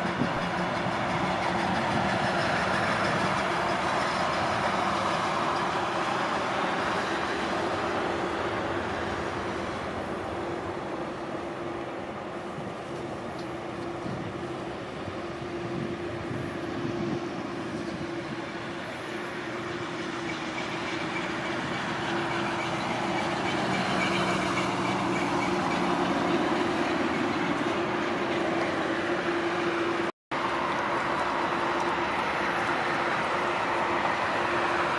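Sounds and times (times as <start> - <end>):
jet engines humming and whining: 0.0 - 34.9.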